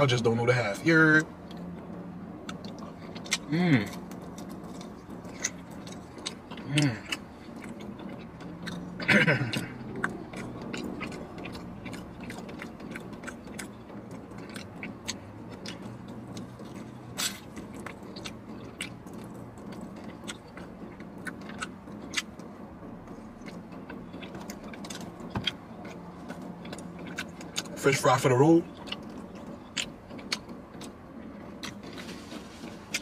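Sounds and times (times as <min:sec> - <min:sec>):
steady low hum: 0:00.0 - 0:33.0
man chewing chicken wings: 0:01.4 - 0:33.0.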